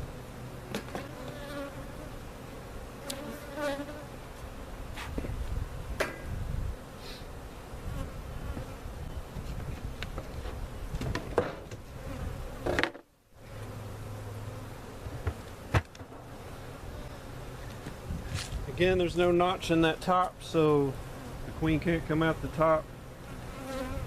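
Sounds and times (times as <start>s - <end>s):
bees buzzing: 0.0s - 12.8s, 13.4s - 24.0s.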